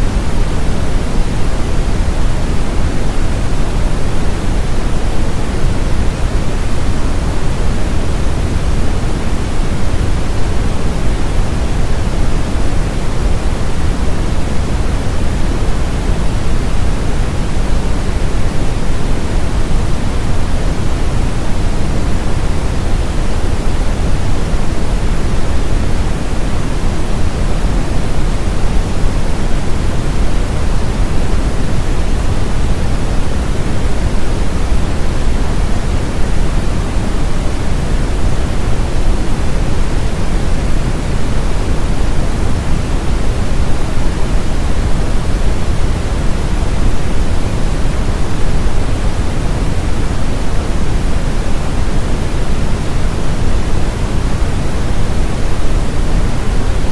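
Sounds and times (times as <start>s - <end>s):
brown noise hiss: 0.0s - 56.9s.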